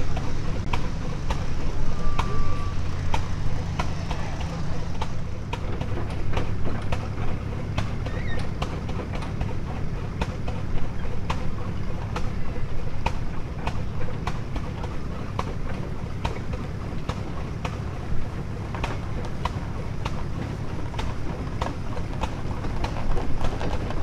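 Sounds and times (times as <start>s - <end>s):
steam traction engine beats: 0.0s - 24.0s.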